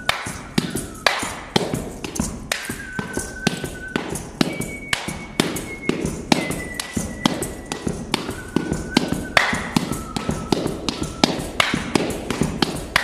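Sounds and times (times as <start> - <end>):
faint high steady tone: 0.0 - 11.9
boots stamping on gravel: 0.4 - 13.0.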